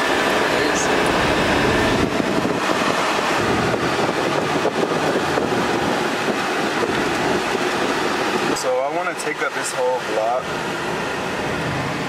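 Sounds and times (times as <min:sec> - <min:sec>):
air-conditioning blower: 0:00.0 - 0:12.0
road and tyre noise: 0:00.0 - 0:12.0.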